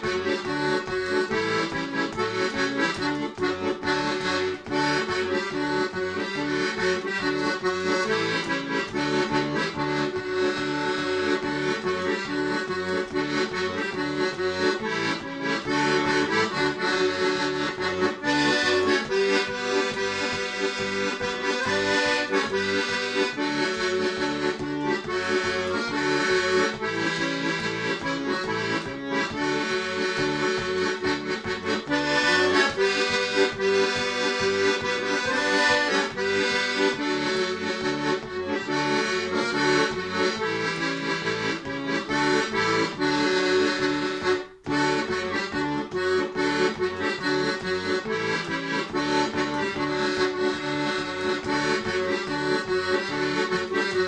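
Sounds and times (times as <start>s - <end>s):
piano accordion melody: 0.0s - 54.0s.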